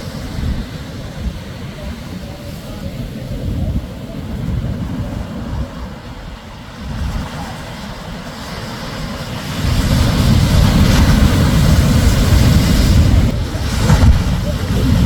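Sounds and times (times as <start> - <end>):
surf breaking on shore: 0.0 - 15.0.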